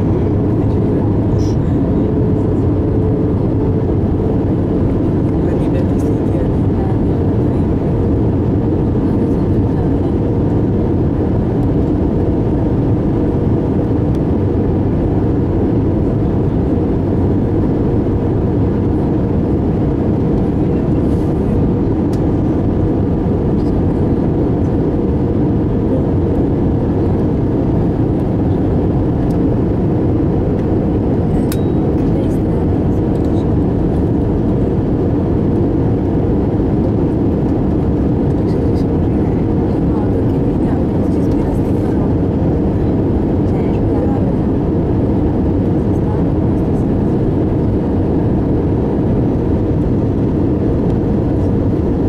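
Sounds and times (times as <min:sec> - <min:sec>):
aircraft cabin jet engine noise: 0:00.0 - 0:52.0.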